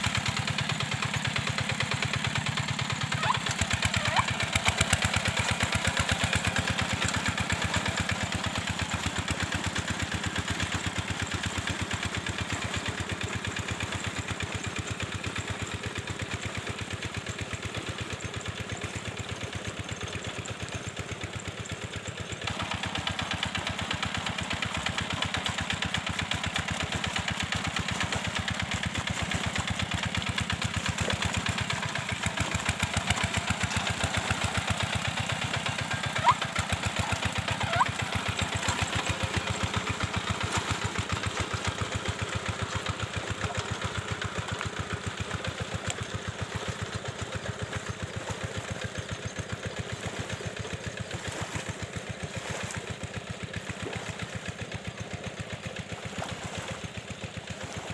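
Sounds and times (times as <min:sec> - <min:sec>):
diesel engine knocking: 0:00.0 - 0:57.9.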